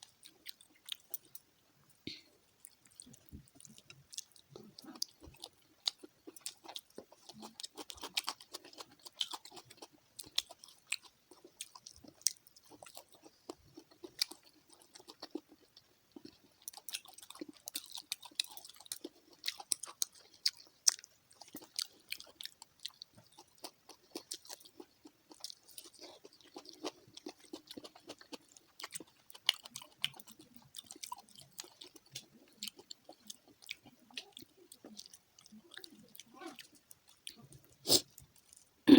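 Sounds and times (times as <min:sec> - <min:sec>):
chewing and crunching fried fish: 0:00.0 - 0:38.8.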